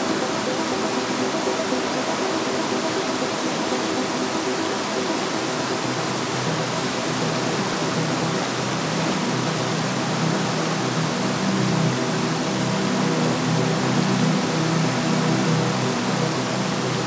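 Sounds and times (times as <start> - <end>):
stream flowing and babbling: 0.0 - 17.0.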